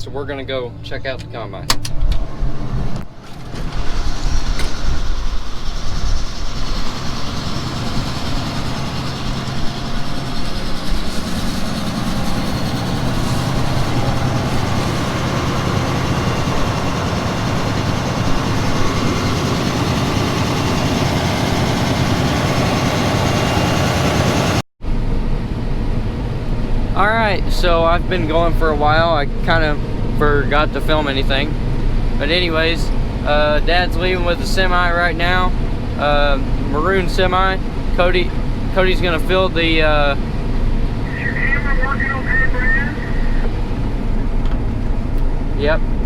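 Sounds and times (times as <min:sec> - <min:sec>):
combine harvester running: 0:00.0 - 0:46.0.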